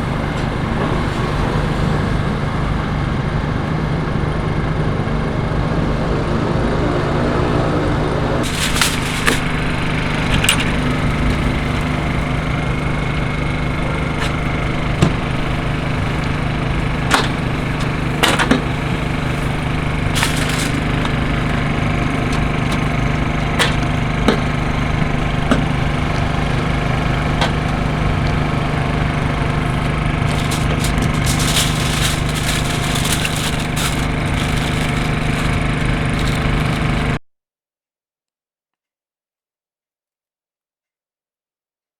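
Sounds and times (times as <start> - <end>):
engine humming: 0.0 - 37.2.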